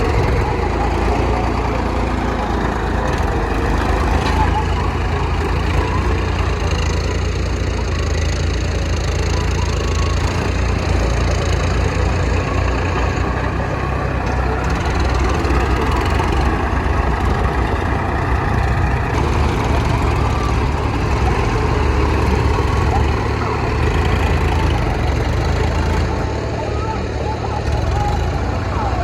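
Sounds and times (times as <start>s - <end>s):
diesel tractor engine running: 0.0s - 29.0s.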